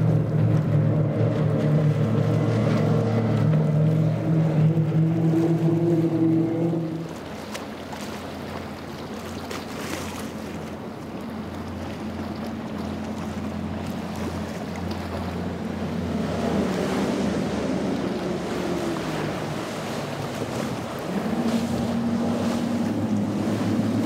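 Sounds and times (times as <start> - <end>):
hull spray rushing on water: 0.0 - 24.0
outboard engines droning: 0.0 - 24.0.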